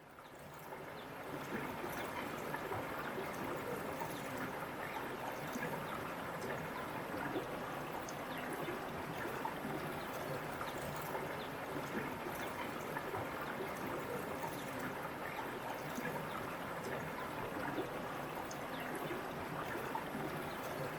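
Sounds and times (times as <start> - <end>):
small water splashes: 0.2 - 20.9.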